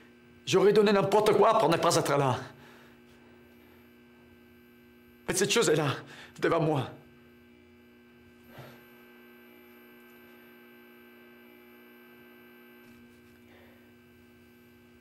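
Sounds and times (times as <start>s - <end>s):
faint hum of held tones: 0.0s - 15.0s.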